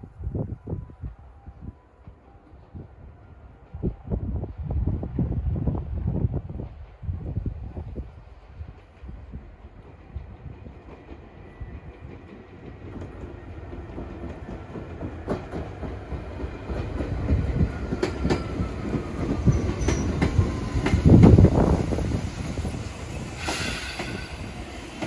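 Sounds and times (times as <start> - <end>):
electric train passing: 0.2 - 25.0.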